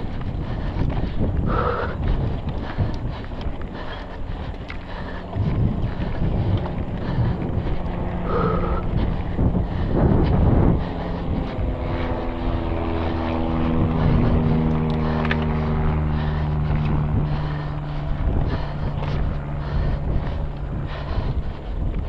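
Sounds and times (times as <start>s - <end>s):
bike rattling over rough ground: 0.0s - 22.0s
steady buzzing tone: 0.0s - 22.0s
wind on microphone: 0.0s - 22.0s.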